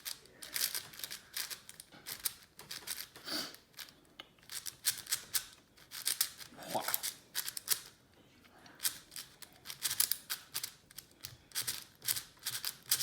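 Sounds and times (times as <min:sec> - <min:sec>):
puzzle cube plastic clicking: 0:00.0 - 0:08.0, 0:08.8 - 0:13.0.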